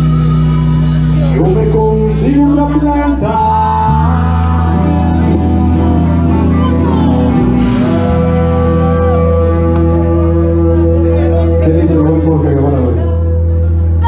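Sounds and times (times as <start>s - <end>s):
bass line: 0.0s - 14.0s
live rock band playing: 0.0s - 14.0s.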